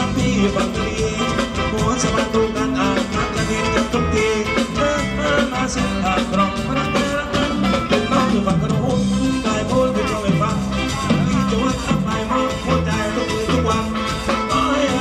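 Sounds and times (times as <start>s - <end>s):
upbeat music with singing: 0.0s - 15.0s.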